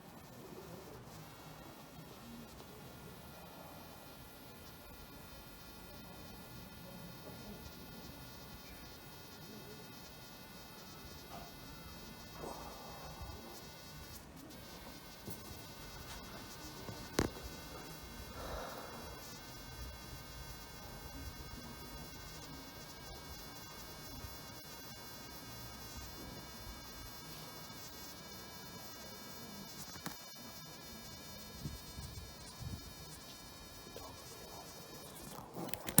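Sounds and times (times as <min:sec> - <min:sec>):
wasps buzzing: 0:00.0 - 0:36.0.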